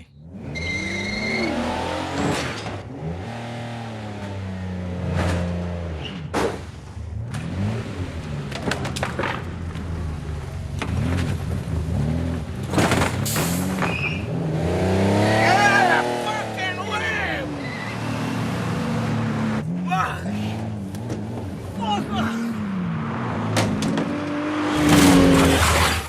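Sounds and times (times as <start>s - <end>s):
car engine revving: 0.0s - 6.3s, 7.1s - 26.0s.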